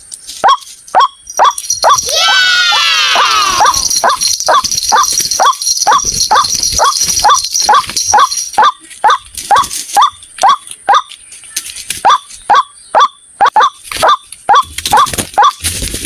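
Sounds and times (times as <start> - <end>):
waterhen calling: 0.4 - 11.1, 12.0 - 15.6.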